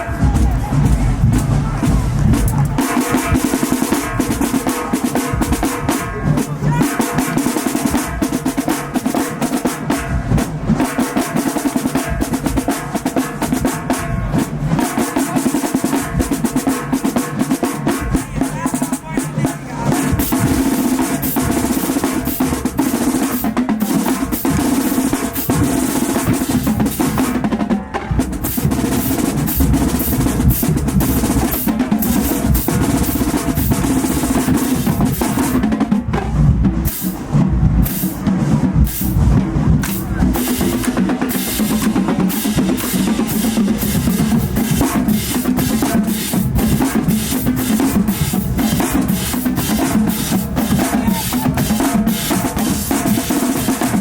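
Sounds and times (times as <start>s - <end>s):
bass drums: 0.0s - 54.0s
snare drum strokes and rolls: 0.0s - 54.0s.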